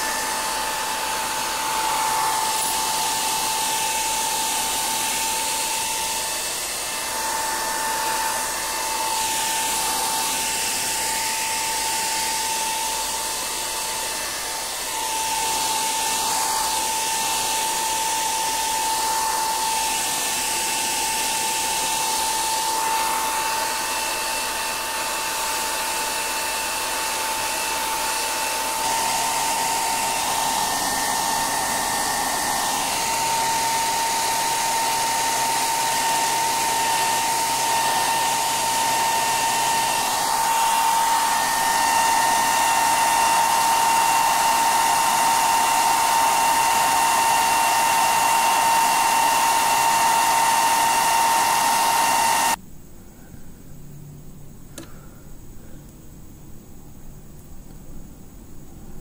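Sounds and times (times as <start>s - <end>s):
hair dryer blowing: 0.0s - 52.6s.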